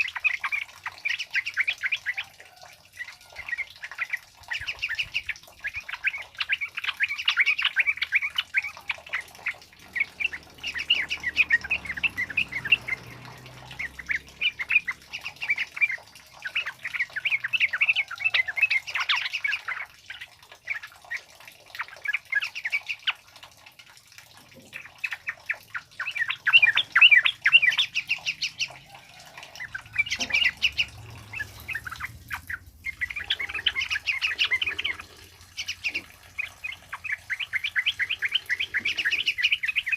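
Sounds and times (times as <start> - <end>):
birds chattering song: 0.0 - 23.4, 24.5 - 39.9.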